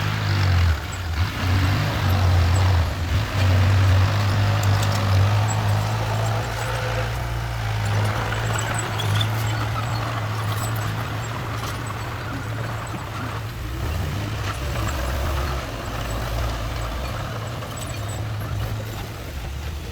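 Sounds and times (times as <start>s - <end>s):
diesel engine humming: 0.0s - 19.9s.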